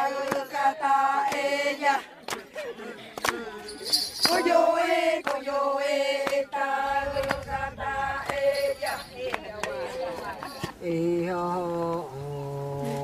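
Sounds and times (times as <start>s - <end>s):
women chanting in unison: 0.0s - 13.0s.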